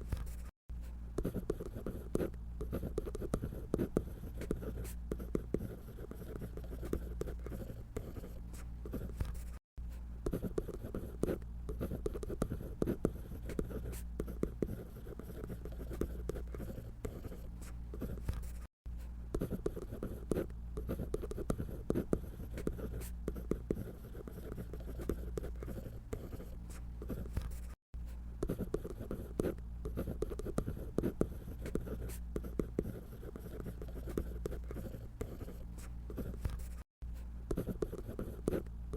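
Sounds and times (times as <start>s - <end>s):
drawing tool scratching paper: 0.0s - 0.5s, 1.2s - 9.6s, 10.3s - 18.7s, 19.4s - 27.8s, 28.4s - 36.9s, 37.5s - 38.6s.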